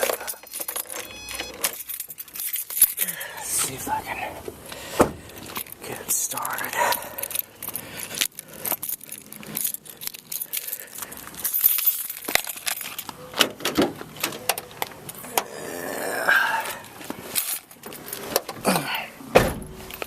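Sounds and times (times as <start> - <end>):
car keys jangling: 0.0 - 15.4, 16.6 - 18.7, 19.4 - 20.0.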